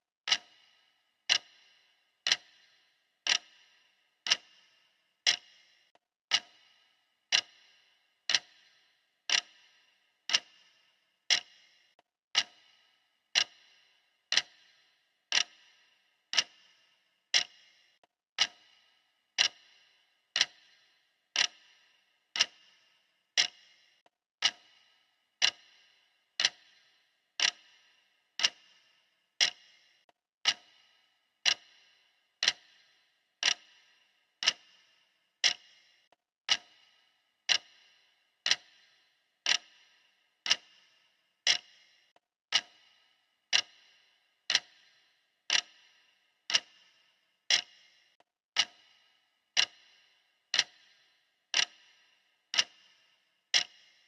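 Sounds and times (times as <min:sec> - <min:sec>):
clock ticking: 0:00.3 - 0:54.0.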